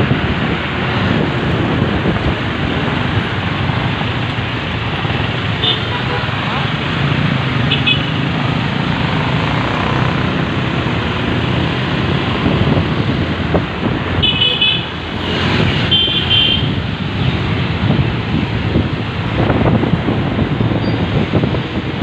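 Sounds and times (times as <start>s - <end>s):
engine and road noise: 0.0s - 22.0s.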